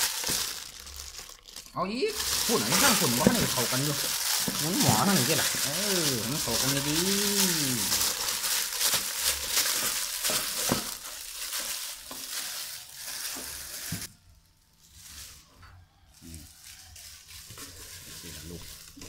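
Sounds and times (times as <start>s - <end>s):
plastic bag crinkling: 0.0s - 14.1s, 16.4s - 19.0s.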